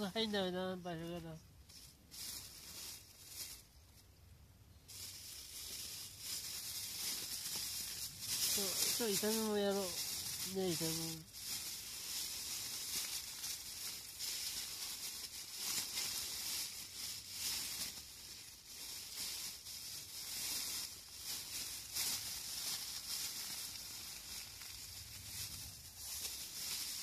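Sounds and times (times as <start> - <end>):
plastic bag rustling: 0.0 - 4.1, 4.8 - 27.0.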